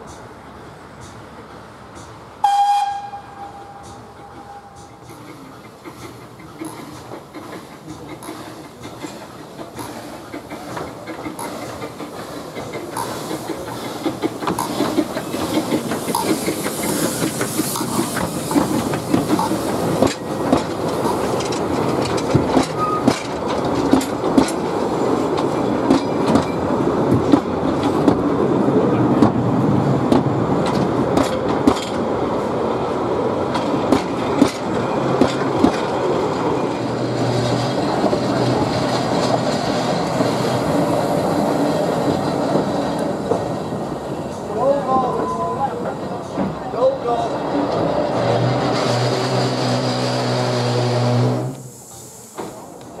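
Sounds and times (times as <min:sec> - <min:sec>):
train rumbling: 0:00.0 - 0:53.0
wheels clicking on rail joints: 0:02.9 - 0:28.3, 0:30.1 - 0:32.3, 0:33.4 - 0:51.6.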